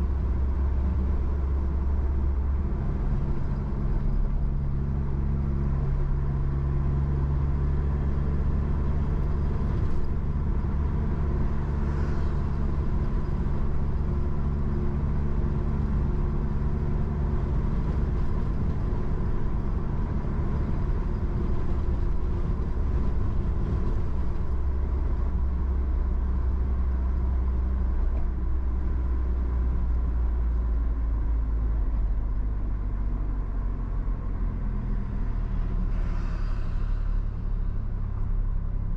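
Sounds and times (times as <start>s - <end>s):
car engine droning: 0.0s - 38.9s
road noise: 0.0s - 38.9s.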